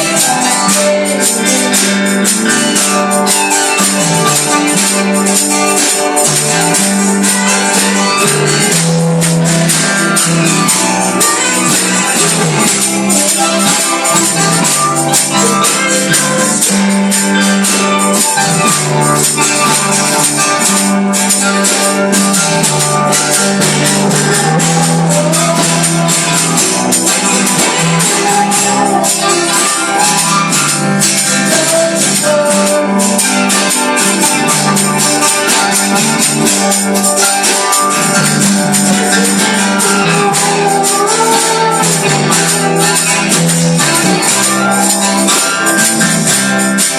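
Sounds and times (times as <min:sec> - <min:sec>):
fast jingling percussion: 0:00.0 - 0:46.9
live gospel band playing: 0:00.0 - 0:46.9.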